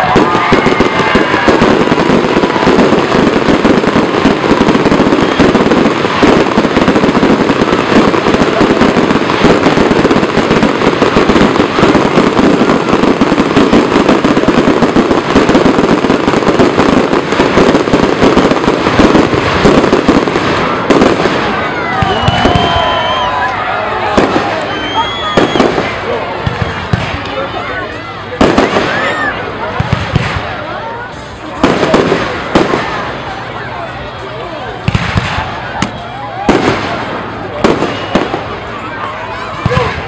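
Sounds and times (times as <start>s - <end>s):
fireworks crackling pops: 0.0s - 33.6s, 34.8s - 40.0s.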